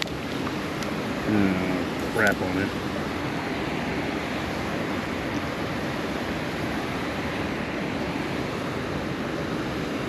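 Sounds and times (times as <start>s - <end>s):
water rushing through spillway: 0.0s - 10.0s.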